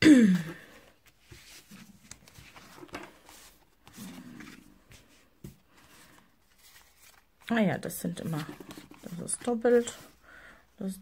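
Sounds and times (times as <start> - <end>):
paper rustling: 0.6 - 10.2.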